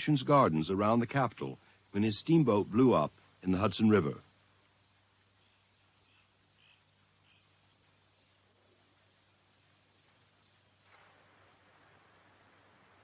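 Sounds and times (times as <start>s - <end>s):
cricket chirping: 0.0s - 12.1s.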